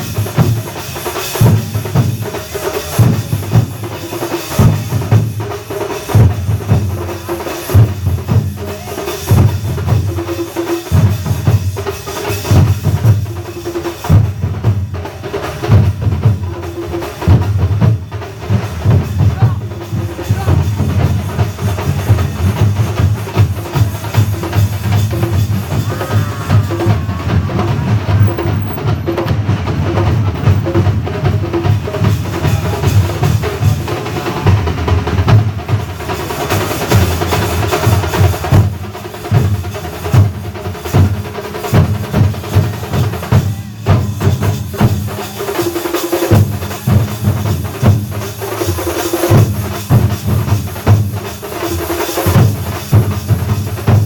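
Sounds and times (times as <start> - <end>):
drum band playing fast rhythm: 0.0 - 54.0.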